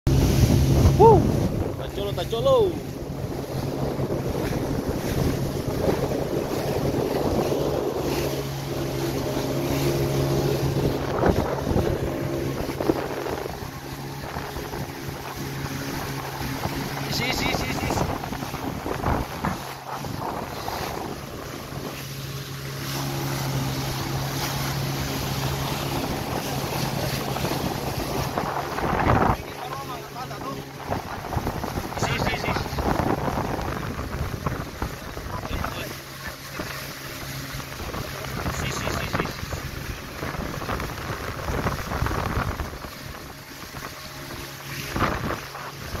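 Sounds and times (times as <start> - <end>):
boat motor humming: 0.1 - 46.0
water rushing past hull: 0.1 - 46.0
wind buffeting microphone: 0.1 - 46.0.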